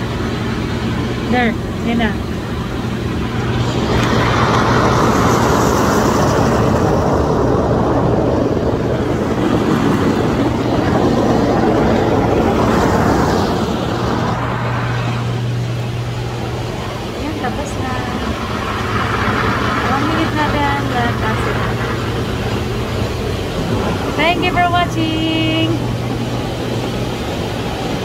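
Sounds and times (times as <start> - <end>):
pump humming: 0.0 - 28.0
water jets rushing: 0.0 - 28.0.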